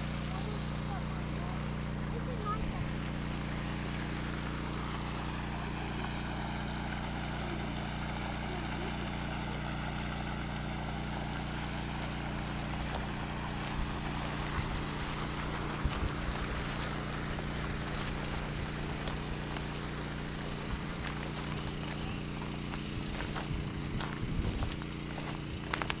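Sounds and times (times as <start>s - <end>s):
water gushing and splashing: 0.0s - 26.0s
water pump engine humming: 0.0s - 26.0s.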